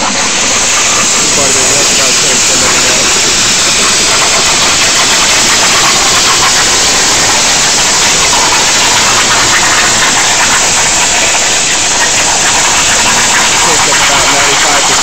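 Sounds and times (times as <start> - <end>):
plasma torch cutting hiss: 0.0 - 15.0.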